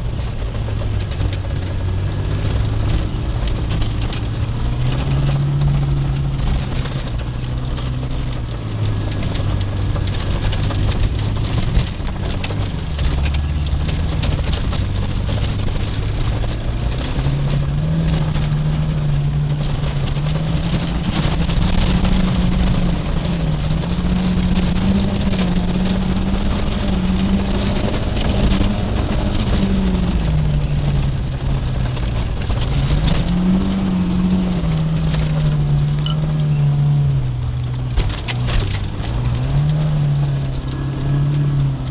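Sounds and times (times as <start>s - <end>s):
car engine revving: 0.0s - 41.9s
steady rushing noise: 0.0s - 41.9s.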